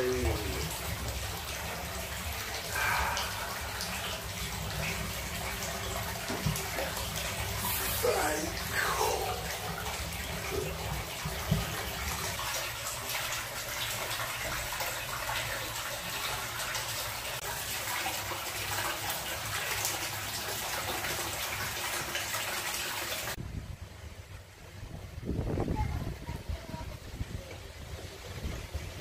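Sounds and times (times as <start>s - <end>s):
water pouring into a bathtub: 0.0s - 23.4s.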